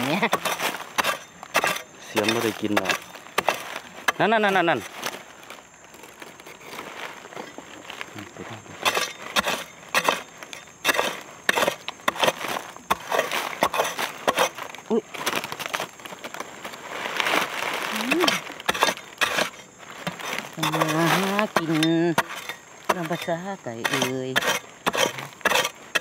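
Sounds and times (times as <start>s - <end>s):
spade digging dry soil: 0.0s - 26.0s.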